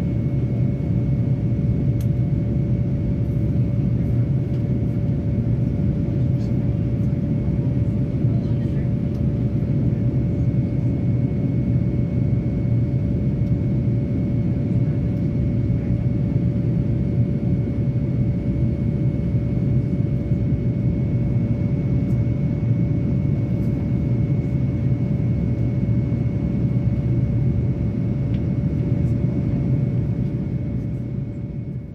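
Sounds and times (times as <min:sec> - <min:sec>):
jet engines low roar: 0:00.0 - 0:31.9.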